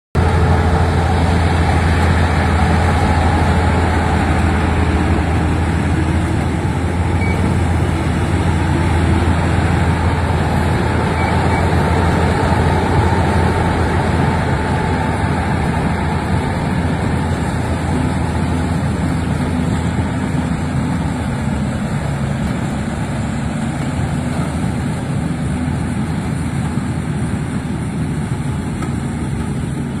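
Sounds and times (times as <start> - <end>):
combine harvester running: 0.2 - 30.0.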